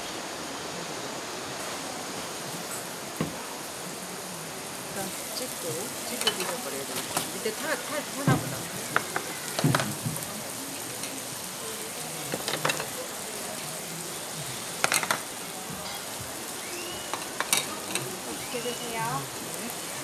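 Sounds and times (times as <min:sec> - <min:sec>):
food sizzling in stone bowl: 0:01.5 - 0:20.0.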